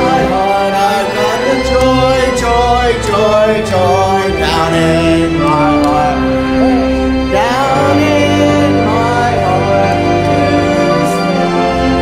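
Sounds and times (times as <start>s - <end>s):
church singing: 0.0s - 12.0s
held bass notes: 0.0s - 12.0s.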